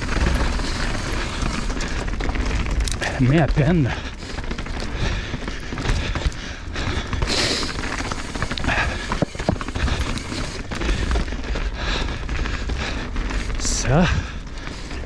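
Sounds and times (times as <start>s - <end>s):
bike clattering: 0.0s - 15.0s
tyres rumbling over dirt and rock: 0.0s - 15.0s.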